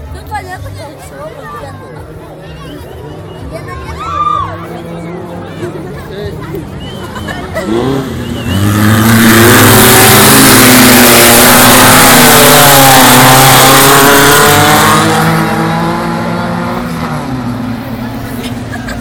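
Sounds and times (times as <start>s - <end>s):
race car engine passing by: 3.1s - 19.0s.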